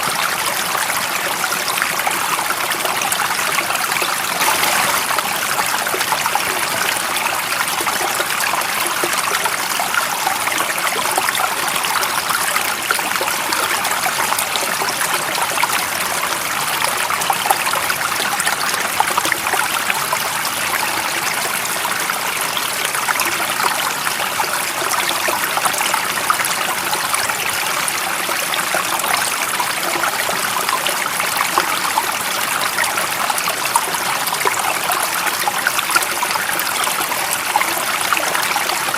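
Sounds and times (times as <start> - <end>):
running water flowing: 0.0 - 38.9.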